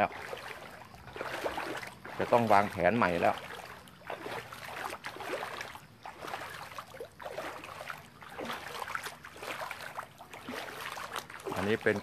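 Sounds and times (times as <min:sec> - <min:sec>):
footsteps sloshing through water: 0:00.0 - 0:12.0.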